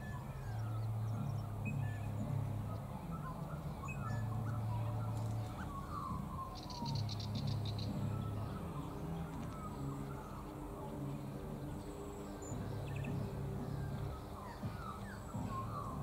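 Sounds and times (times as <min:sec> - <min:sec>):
small birds whistling: 0:00.0 - 0:11.0, 0:11.7 - 0:16.0.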